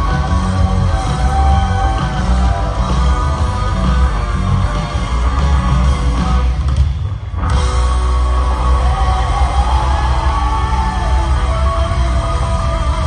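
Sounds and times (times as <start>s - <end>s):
rock band music with guitar: 0.0s - 13.0s.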